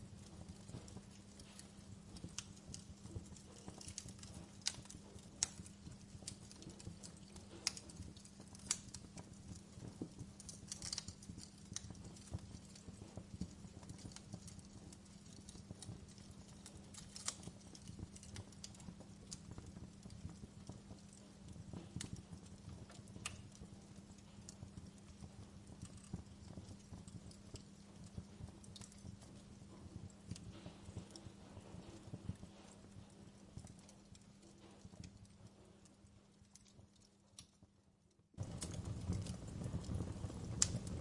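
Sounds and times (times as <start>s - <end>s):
low rumble of burning: 0.0s - 41.0s
wood fire crackling: 0.0s - 41.0s.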